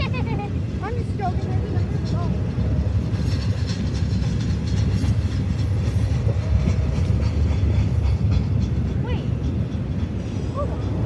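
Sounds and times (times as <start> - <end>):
clickety-clack of rail joints: 0.0 - 11.0
train wheels rumbling on rail: 0.0 - 11.0.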